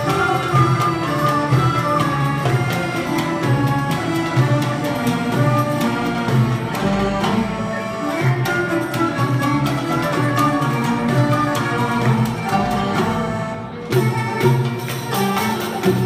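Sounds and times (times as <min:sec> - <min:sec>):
bowed strings melody: 0:00.0 - 0:16.0
steady percussion beat: 0:00.0 - 0:16.0.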